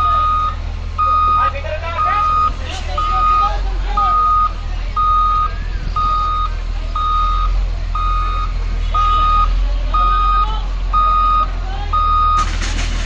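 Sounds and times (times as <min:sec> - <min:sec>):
reversing alarm beeping: 0:00.0 - 0:12.6
diesel engine running: 0:00.0 - 0:13.0.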